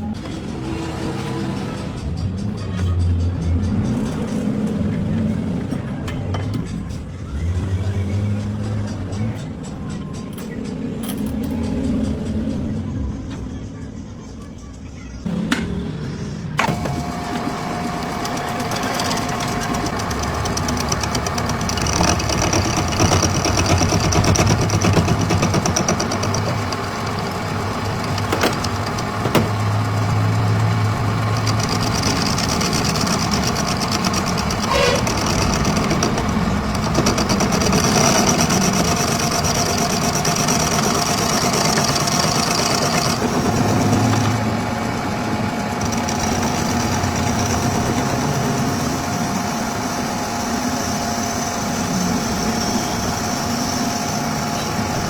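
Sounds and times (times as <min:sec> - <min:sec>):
workshop machinery running: 0:00.0 - 0:55.0.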